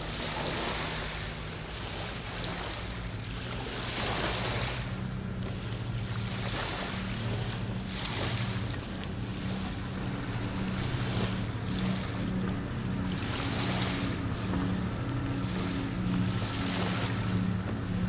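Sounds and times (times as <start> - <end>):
ship engine hum: 0.0 - 18.0
small waves washing against bank: 0.0 - 18.0.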